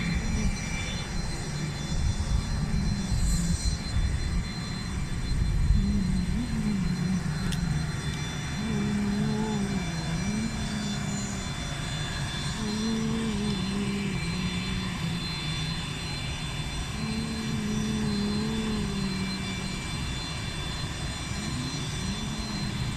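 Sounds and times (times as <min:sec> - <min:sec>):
jet engines rumbling and whining: 0:00.0 - 0:22.9
low wavering hum: 0:00.0 - 0:22.9.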